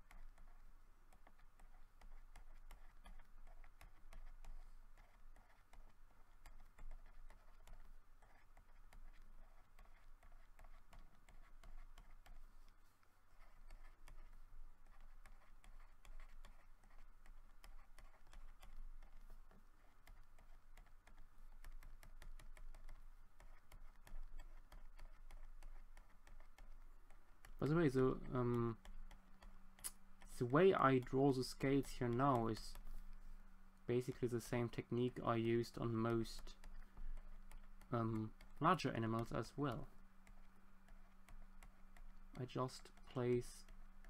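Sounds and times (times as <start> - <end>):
pen stylus tapping on tablet: 0.0 - 12.5, 13.4 - 31.2, 35.8 - 44.0
low steady hum: 0.0 - 44.0.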